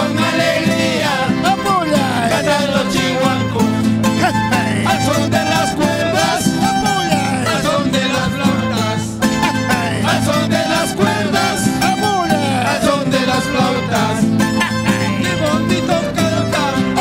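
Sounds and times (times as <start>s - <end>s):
acoustic guitar strumming: 0.0s - 17.0s
men singing together: 0.0s - 17.0s.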